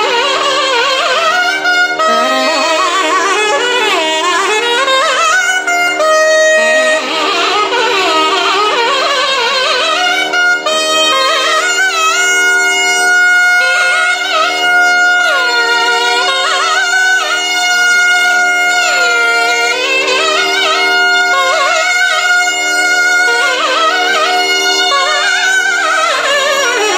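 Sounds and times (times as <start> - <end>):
double-reed pipes melody: 0.0 - 26.9.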